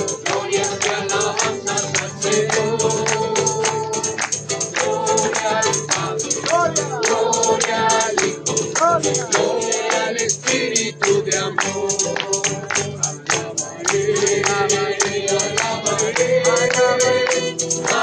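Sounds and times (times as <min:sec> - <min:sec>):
group singing: 0:00.0 - 0:18.0
quick percussion beat: 0:00.0 - 0:18.0.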